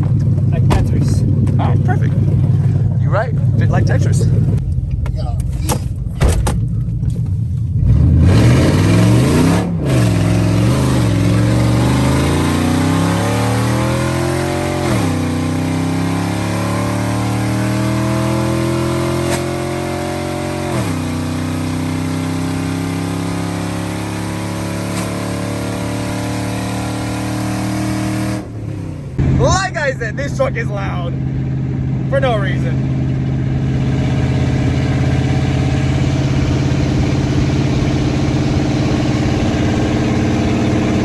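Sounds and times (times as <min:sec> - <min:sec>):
pickup truck engine accelerating: 0:05.8 - 0:41.0.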